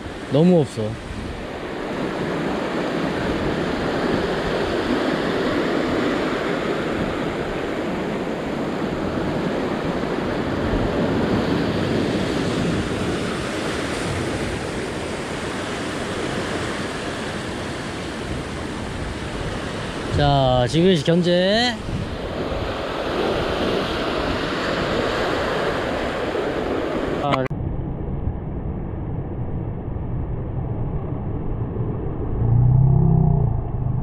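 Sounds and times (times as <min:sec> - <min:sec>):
sea surf washing over rocks: 0:00.0 - 0:27.5.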